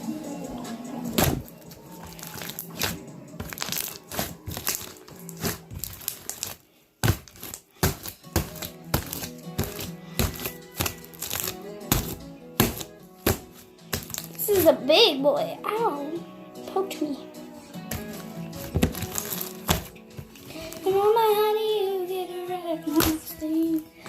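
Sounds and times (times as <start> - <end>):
song playing in background: 0.0 - 24.0.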